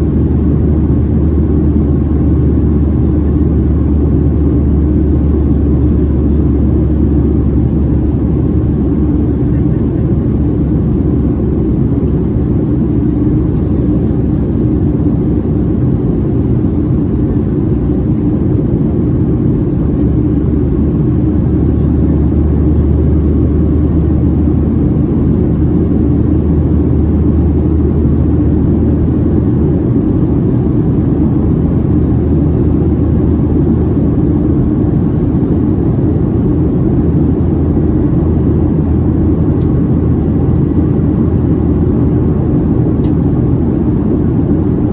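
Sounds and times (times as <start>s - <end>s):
airplane cabin rumble: 0.0s - 44.9s
low hum: 0.0s - 44.9s.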